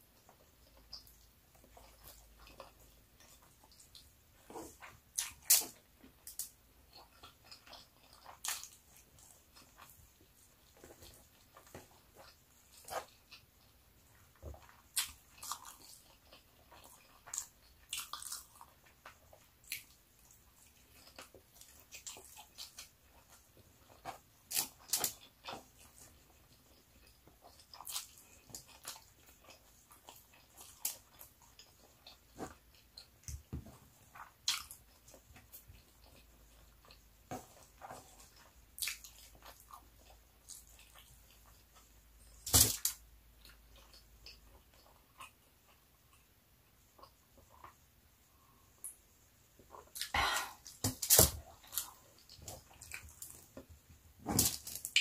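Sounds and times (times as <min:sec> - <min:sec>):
person chewing with mouth clicks: 0:00.2 - 0:47.8, 0:49.7 - 0:53.7, 0:54.4 - 0:55.0.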